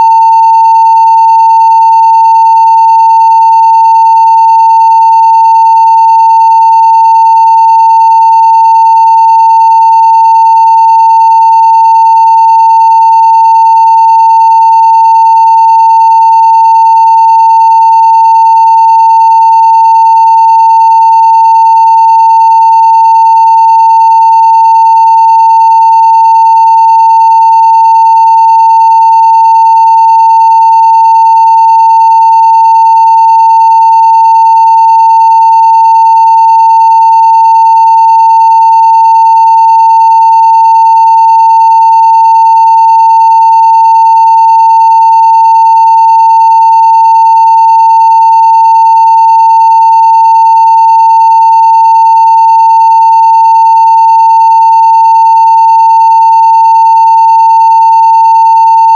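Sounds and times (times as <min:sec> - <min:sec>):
sine wave test tone: 0:00.0 - 0:58.9.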